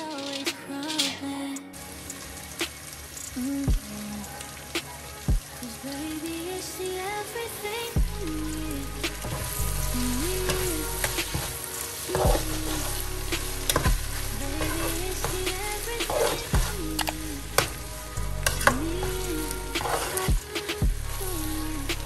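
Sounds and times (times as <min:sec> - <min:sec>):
rice sizzling in a pot: 0:01.8 - 0:07.0, 0:08.3 - 0:21.7.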